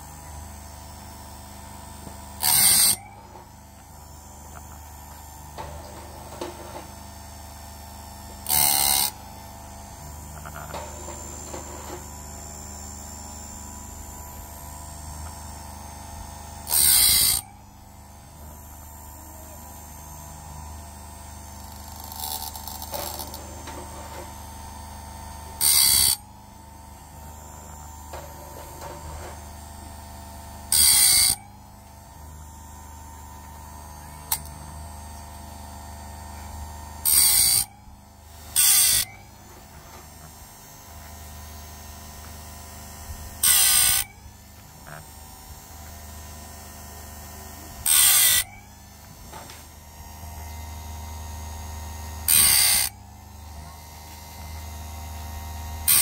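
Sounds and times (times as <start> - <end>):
blade sharpener humming: 0.0 - 56.0
grinding wheel on blade teeth: 0.0 - 56.0.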